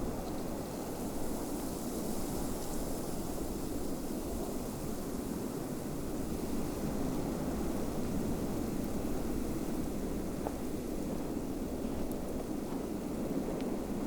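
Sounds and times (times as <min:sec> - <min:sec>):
wind blowing: 0:00.0 - 0:14.0.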